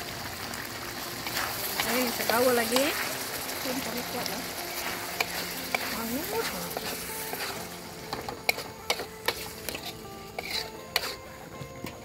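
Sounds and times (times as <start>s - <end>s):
food sizzling in a wok: 0.0s - 12.0s
metal spatula scraping a wok: 1.2s - 11.4s.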